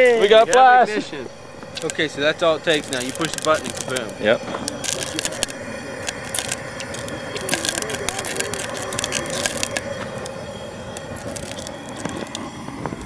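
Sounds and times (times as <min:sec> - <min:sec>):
gas burner running: 0:00.0 - 0:13.0
hot oil crackling pops: 0:00.0 - 0:13.0.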